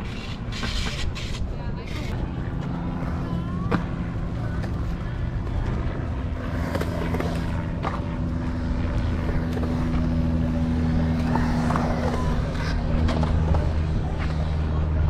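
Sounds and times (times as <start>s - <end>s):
low motor hum: 1.7s - 15.0s.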